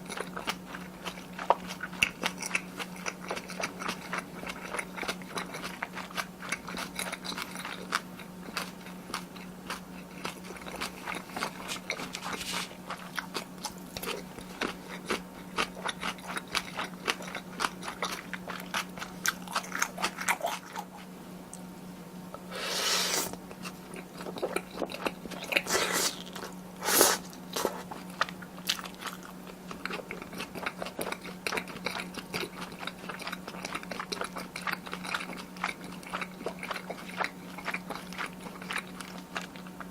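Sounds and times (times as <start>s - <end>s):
wet chewing and biting: 0.0s - 21.1s, 22.4s - 39.9s
low steady hum: 0.0s - 39.9s.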